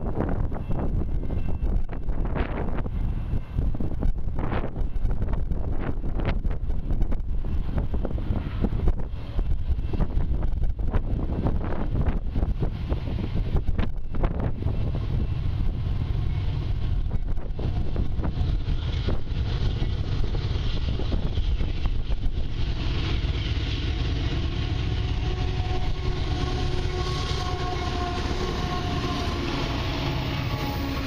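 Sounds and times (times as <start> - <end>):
diesel locomotive engine rumble: 0.0 - 31.0
wind on microphone: 0.0 - 31.0.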